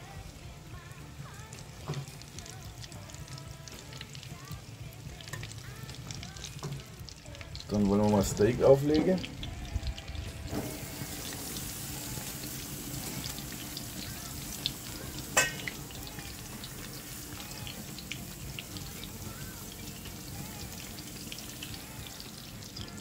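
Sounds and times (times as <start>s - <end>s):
food deep-frying in oil: 0.0s - 23.0s
steak sizzling on a grill: 0.0s - 23.0s.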